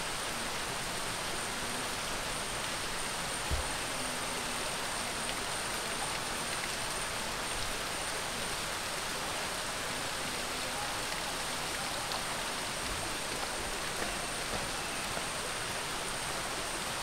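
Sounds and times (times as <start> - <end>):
hiss of falling water: 0.0 - 17.0.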